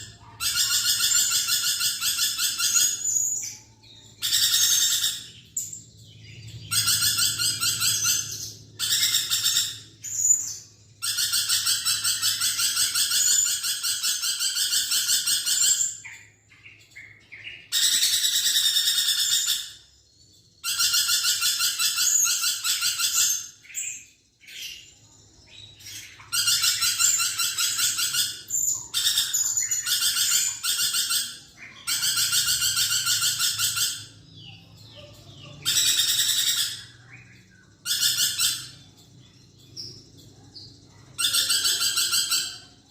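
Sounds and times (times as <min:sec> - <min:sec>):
lorikeet rattling chatter: 0:00.0 - 0:42.9.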